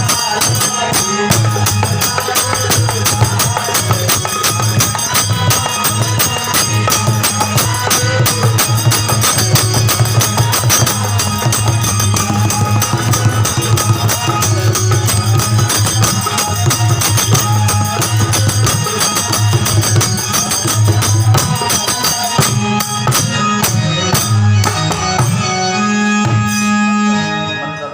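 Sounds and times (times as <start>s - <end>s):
drum and tambourine percussion: 0.0s - 27.0s
sustained melodic tones: 0.0s - 27.9s.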